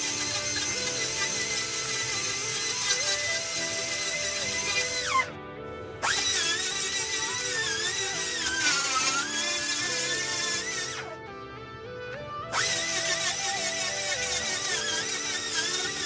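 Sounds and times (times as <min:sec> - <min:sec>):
background music: 0:00.0 - 0:16.0
electric grinder whining: 0:00.0 - 0:16.0.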